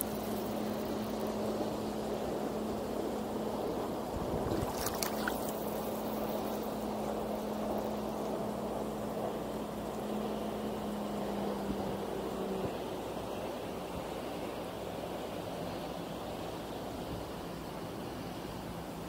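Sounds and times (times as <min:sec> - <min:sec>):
motorboat engine humming: 0:00.0 - 0:19.0
water around a kayak: 0:00.0 - 0:19.0.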